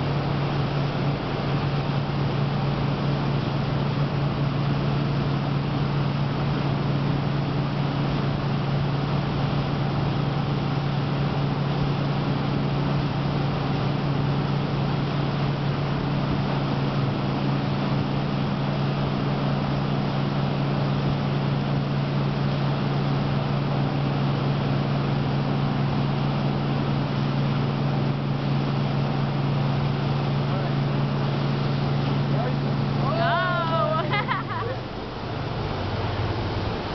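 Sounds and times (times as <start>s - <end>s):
boat engine hum: 0.0s - 36.9s
propeller wash rushing: 0.0s - 36.9s.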